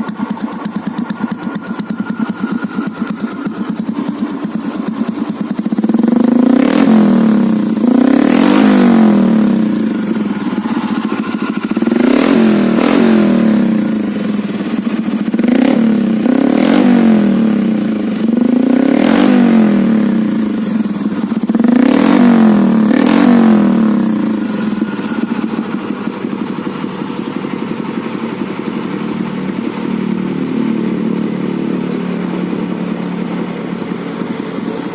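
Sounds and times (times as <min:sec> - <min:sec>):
motorcycle engine idling: 0:00.0 - 0:34.9
motorcycle engine revving: 0:00.0 - 0:34.9.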